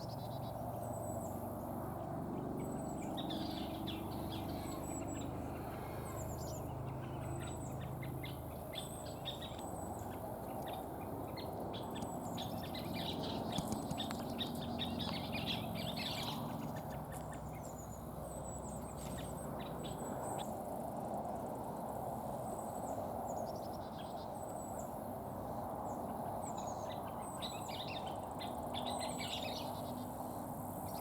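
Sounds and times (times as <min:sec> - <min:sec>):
birds chipping and chattering: 0:00.0 - 0:31.0.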